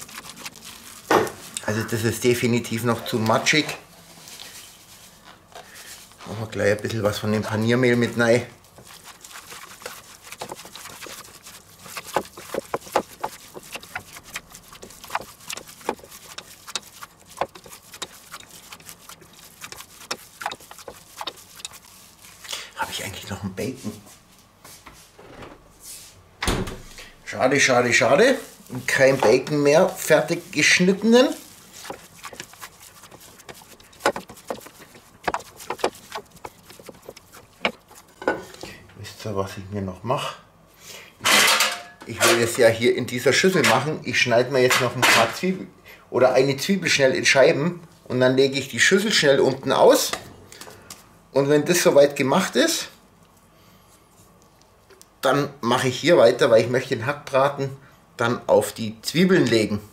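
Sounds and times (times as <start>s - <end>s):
hands kneading meat mixture: 0.0s - 24.8s, 26.9s - 39.6s, 42.1s - 45.6s, 46.2s - 59.9s.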